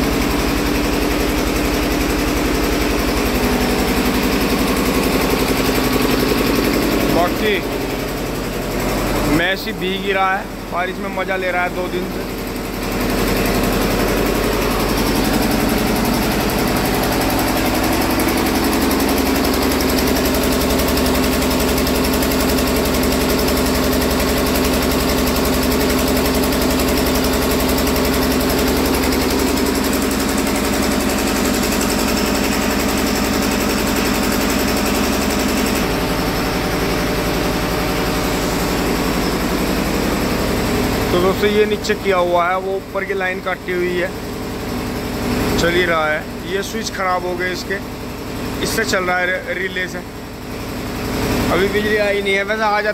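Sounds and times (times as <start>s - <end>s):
diesel generator running: 0.0s - 52.9s.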